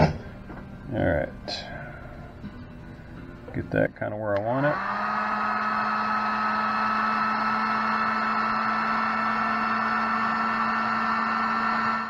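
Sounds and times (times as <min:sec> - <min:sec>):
heat gun fan whine: 0:00.0 - 0:12.0.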